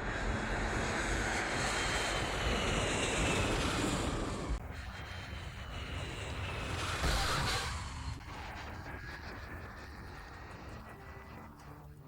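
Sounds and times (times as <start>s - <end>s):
high engine whine: 0.0s - 12.0s
jet airliner engines running: 0.0s - 12.0s.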